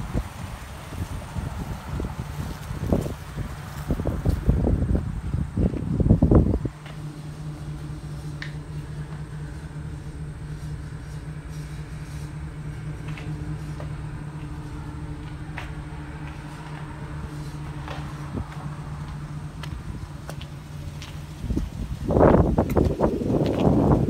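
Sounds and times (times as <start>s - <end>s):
engine idling hum: 0.0s - 24.0s.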